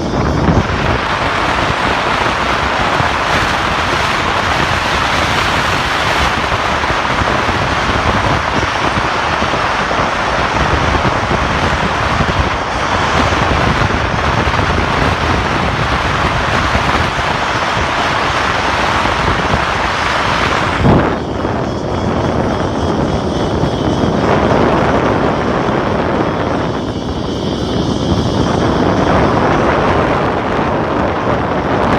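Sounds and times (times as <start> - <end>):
wind noise on microphone: 0.0 - 31.9.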